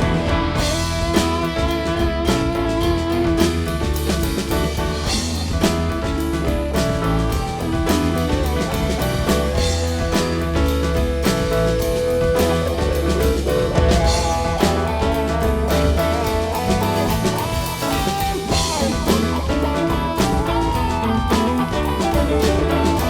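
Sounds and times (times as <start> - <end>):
bass guitar: 0.0 - 23.0
drum kit: 0.0 - 23.0
electric guitar lead: 0.0 - 23.0
keyboard: 0.0 - 23.0.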